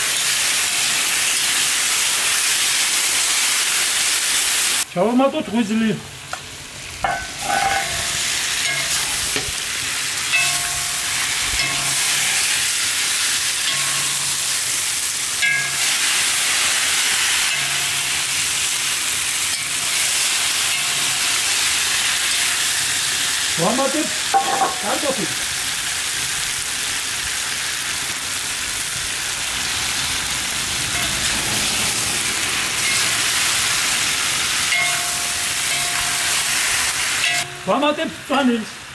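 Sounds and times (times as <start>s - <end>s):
vegetables sizzling in hot oil: 0.0s - 4.9s, 5.8s - 38.9s.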